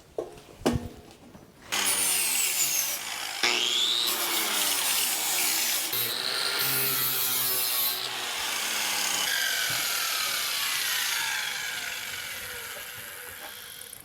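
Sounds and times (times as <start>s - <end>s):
power grinder rasping on metal: 1.7s - 14.0s.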